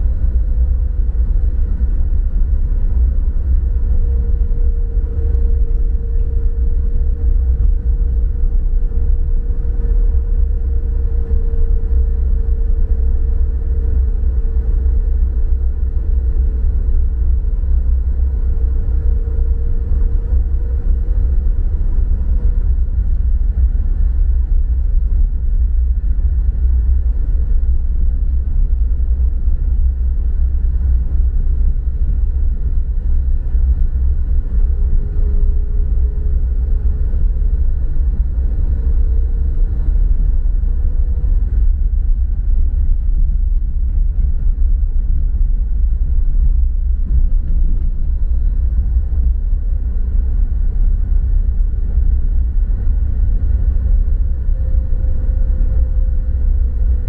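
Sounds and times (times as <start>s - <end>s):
faint steady hum: 0.0s - 57.0s
vehicle engine and road noise: 0.0s - 57.0s.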